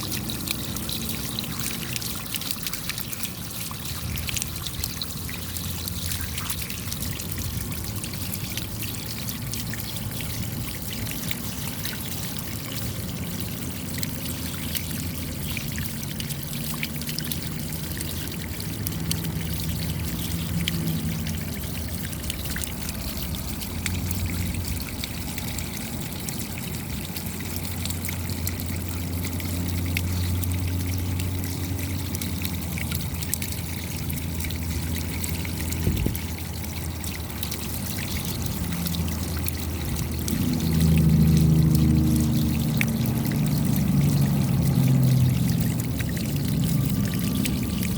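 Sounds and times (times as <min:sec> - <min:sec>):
rain pattering: 0:00.0 - 0:47.9
trickling running water: 0:00.0 - 0:47.9.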